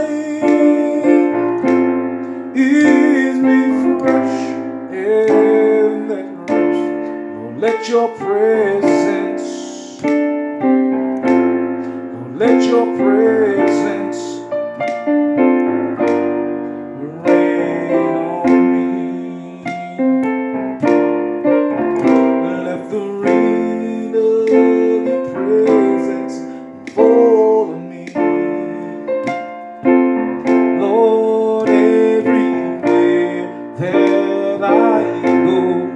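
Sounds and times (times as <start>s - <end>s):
electric piano chords: 0.0s - 35.9s.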